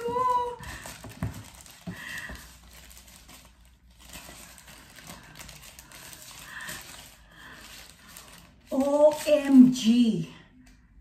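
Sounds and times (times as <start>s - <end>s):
protective wrapping rustling: 0.0s - 9.9s.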